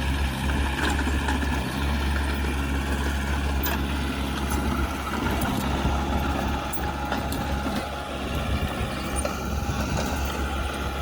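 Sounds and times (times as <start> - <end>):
heavy diesel engine droning: 0.0 - 11.0.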